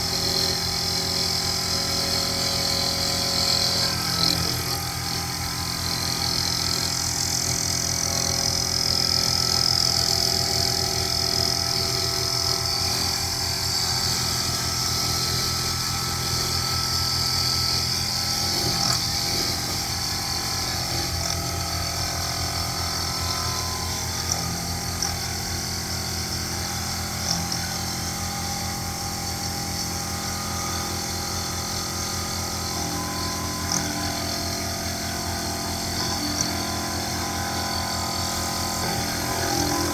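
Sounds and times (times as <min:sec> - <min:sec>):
milling machine cutting: 0:00.0 - 0:39.9.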